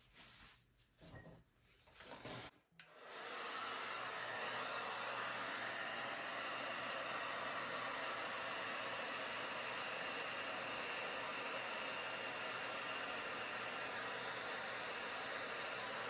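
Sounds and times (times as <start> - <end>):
hair dryer blowing: 2.8 - 16.0.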